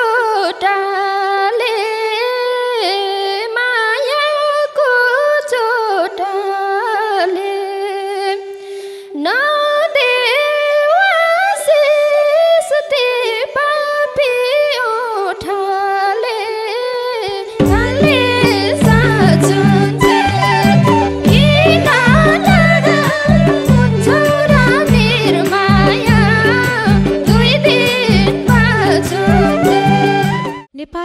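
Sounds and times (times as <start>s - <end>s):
woman singing folk melody: 0.0s - 31.0s.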